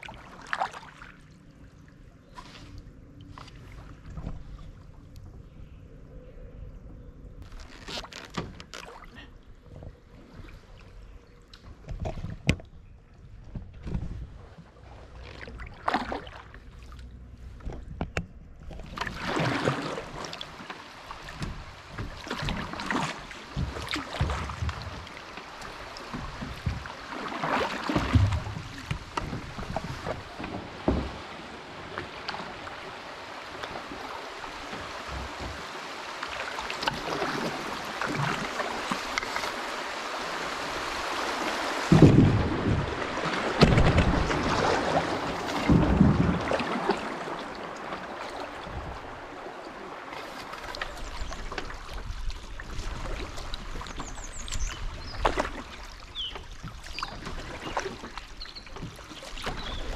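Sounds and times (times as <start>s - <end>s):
paddle strokes in water: 0.0s - 5.8s, 7.4s - 59.9s
water splashing along hull: 0.0s - 59.9s.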